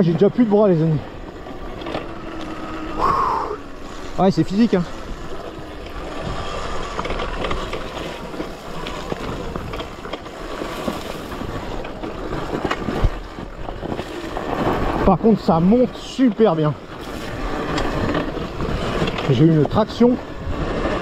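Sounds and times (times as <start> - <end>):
tyres on dirt and stones: 0.0 - 21.0
wind rushing over microphone: 0.0 - 21.0.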